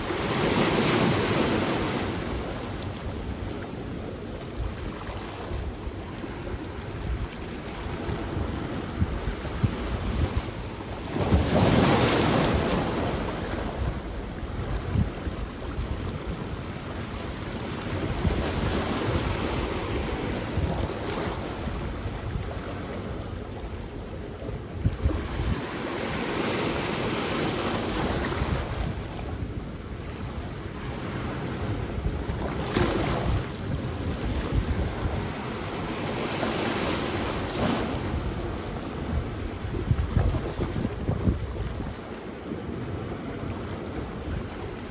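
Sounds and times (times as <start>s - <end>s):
sea waves breaking: 0.0s - 44.9s
wind buffeting microphone: 0.0s - 44.9s.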